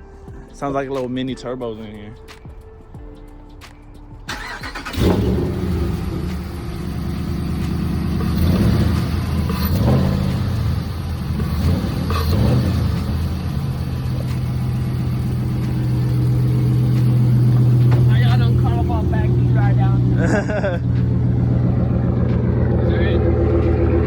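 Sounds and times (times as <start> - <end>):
pickup truck engine revving: 4.3 - 24.0.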